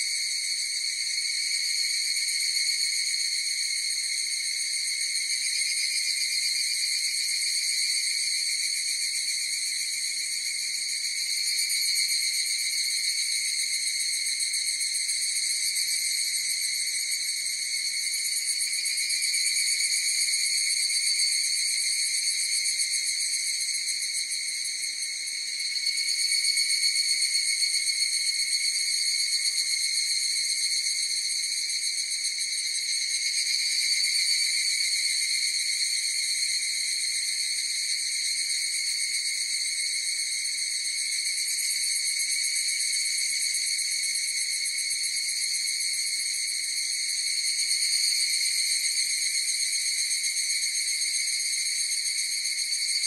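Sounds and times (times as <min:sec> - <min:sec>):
cicadas trilling: 0:00.0 - 0:53.0.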